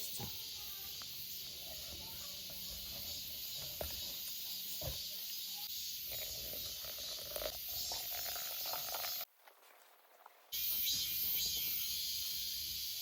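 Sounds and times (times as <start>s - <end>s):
insects chorus: 0.0s - 9.3s, 10.5s - 13.0s.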